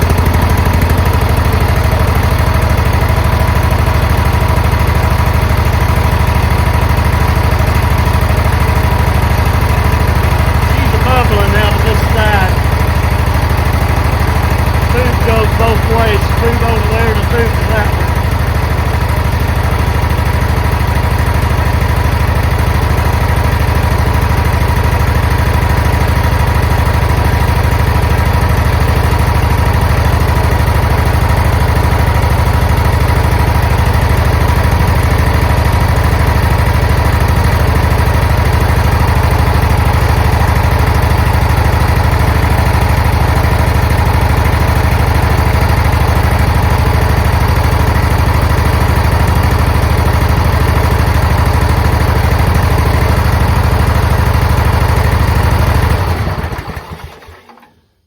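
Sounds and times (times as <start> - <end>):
mower engine idling: 0.0 - 57.8.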